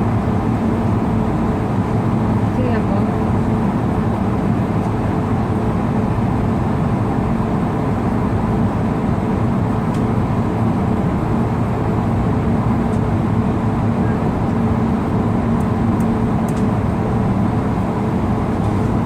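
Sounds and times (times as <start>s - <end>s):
jet engines droning: 0.0s - 19.0s
low steady hum: 0.0s - 19.0s.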